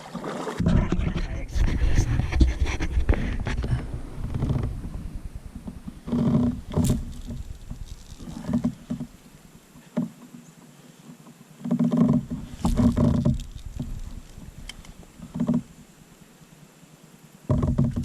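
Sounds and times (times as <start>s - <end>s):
water moving against hull: 0.0s - 10.0s, 11.6s - 16.4s, 17.5s - 18.0s.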